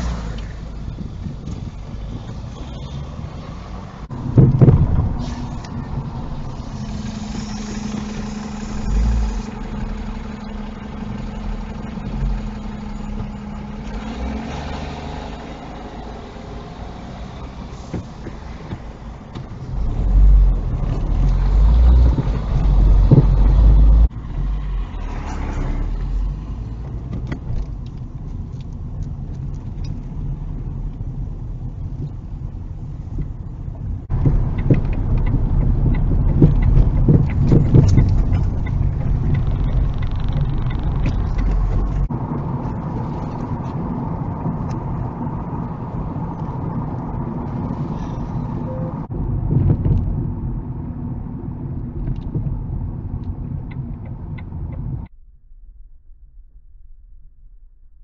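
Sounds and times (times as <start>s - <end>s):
car engine and road noise: 0.0s - 58.0s
low rumbling: 0.0s - 58.0s.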